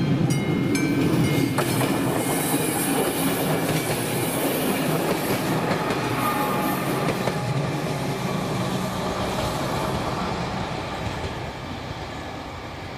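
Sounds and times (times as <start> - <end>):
passing train wheel noise: 0.0 - 12.9.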